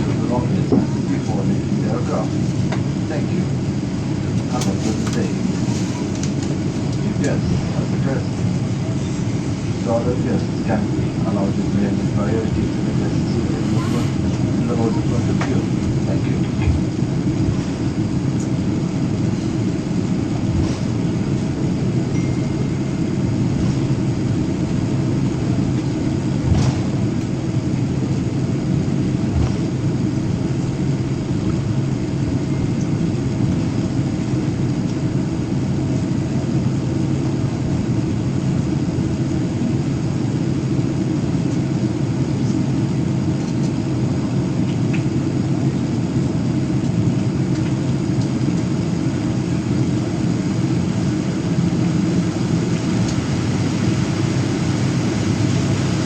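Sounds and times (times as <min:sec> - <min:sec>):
engines idling: 0:00.0 - 0:37.7, 0:38.6 - 0:56.0
cabin air running: 0:00.0 - 0:56.0.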